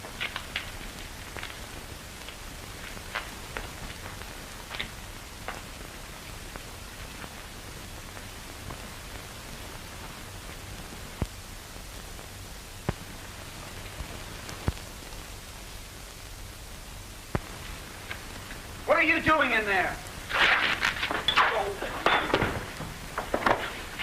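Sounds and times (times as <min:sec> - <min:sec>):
film soundtrack hiss and crackle: 0:00.0 - 0:24.0.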